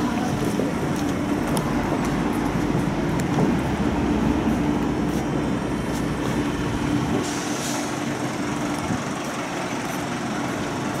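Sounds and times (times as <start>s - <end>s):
street noise: 0.0s - 11.0s
tram humming: 0.0s - 11.0s.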